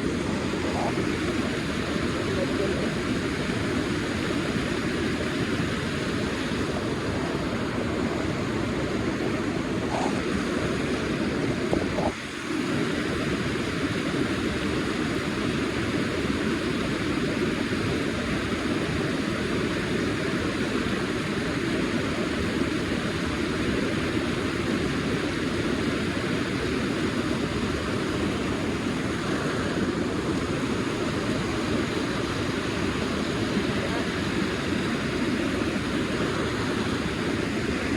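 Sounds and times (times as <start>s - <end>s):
fast-flowing river rushing: 0.0s - 37.9s.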